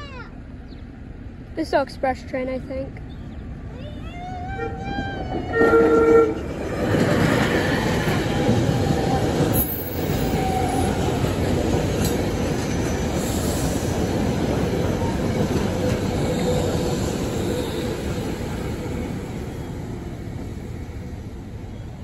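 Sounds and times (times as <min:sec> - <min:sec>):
train wheels rumbling on rail: 0:00.1 - 0:22.0.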